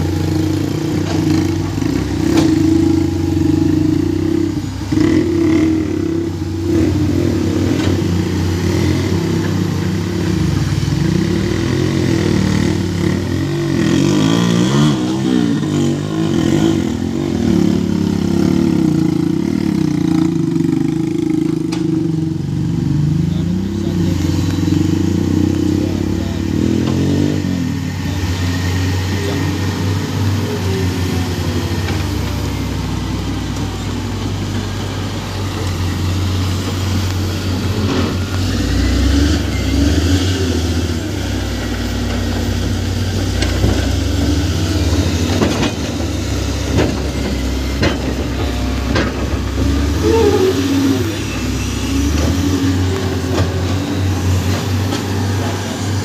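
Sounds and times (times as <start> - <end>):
heavy diesel engines under load: 0.0 - 56.0.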